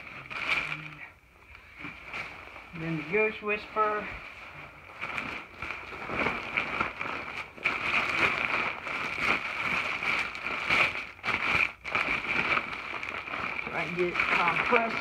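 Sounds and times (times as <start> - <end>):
plastic bag and jacket rustling: 0.0 - 15.0.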